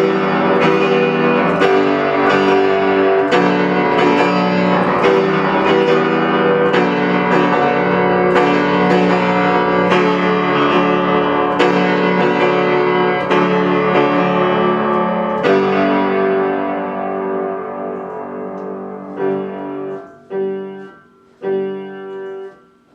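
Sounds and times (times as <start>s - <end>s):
piano chords: 0.0s - 22.9s.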